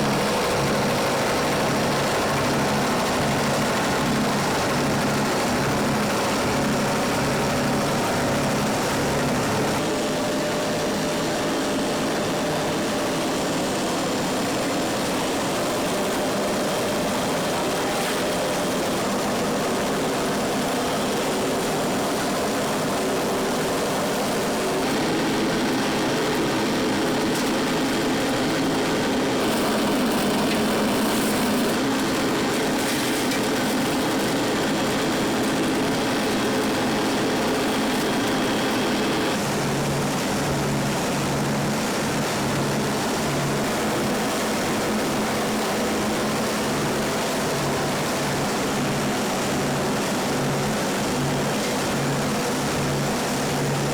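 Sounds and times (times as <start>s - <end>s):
factory machinery hum: 0.0s - 53.9s.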